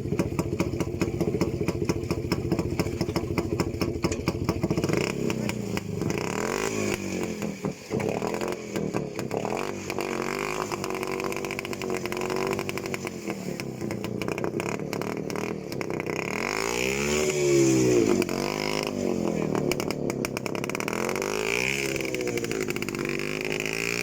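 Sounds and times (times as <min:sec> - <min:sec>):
small vehicle engine revving: 0:00.0 - 0:24.0.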